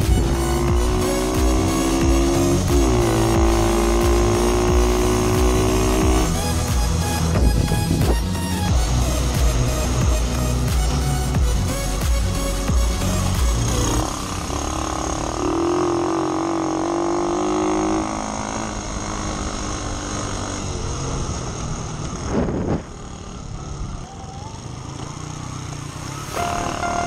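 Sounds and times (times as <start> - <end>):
dirt bike engine running hard: 0.0 - 27.0.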